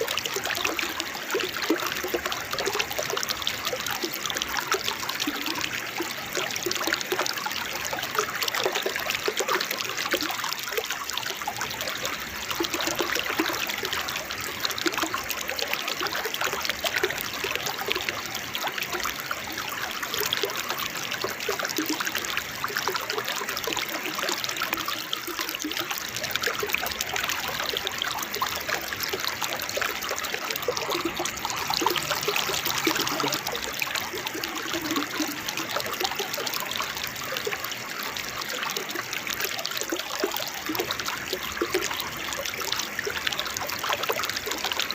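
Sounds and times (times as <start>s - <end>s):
water babbling over waterfall: 0.0s - 44.9s.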